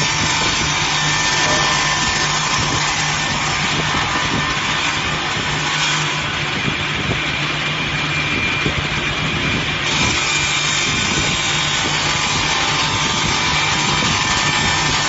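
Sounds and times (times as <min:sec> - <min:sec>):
rip saw machine whining: 0:00.0 - 0:15.0.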